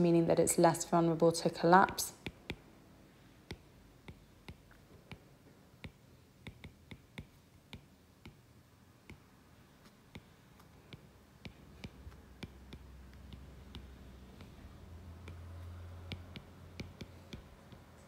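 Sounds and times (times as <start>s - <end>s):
stylus tapping on glass screen: 1.8s - 2.7s, 3.4s - 9.3s, 10.1s - 18.0s.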